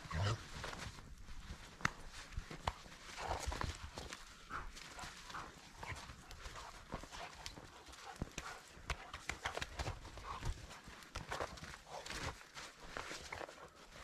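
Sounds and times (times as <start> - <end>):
footsteps crunching in snow: 0.0 - 14.0.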